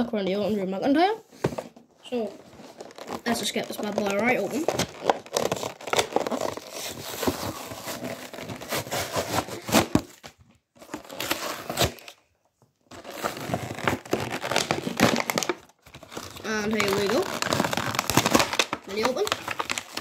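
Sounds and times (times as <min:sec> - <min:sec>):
plastic packaging crinkling: 0:02.2 - 0:12.2, 0:12.9 - 0:20.0.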